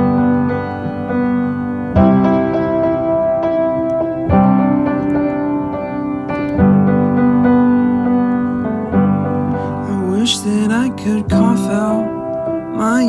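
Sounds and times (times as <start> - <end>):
piano slow chords: 0.0 - 13.0.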